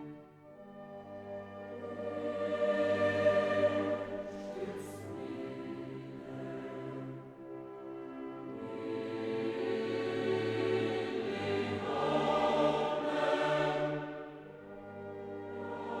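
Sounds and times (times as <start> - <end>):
choir-like background music: 0.0 - 16.0.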